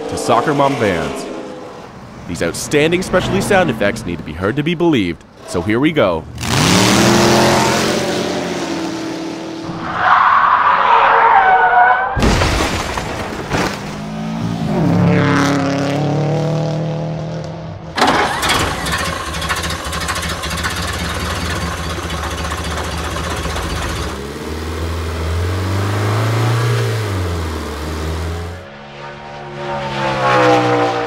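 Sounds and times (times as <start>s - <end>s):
car engines starting and revving: 0.0s - 12.2s, 13.7s - 31.0s.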